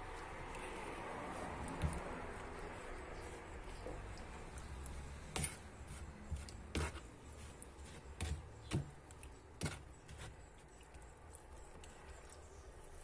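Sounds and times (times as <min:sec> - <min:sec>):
spoon stirring slurry: 0:00.0 - 0:13.0.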